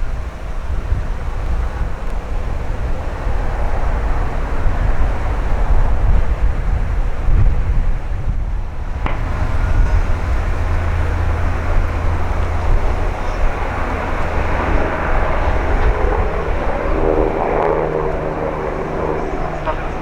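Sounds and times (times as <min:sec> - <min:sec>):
airliner engine whine: 0:00.0 - 0:20.0
wind rumble on microphone: 0:00.0 - 0:20.0.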